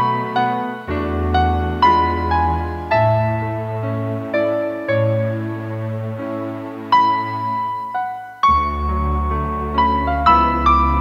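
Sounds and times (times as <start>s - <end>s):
slow keyboard music: 0.0s - 11.0s.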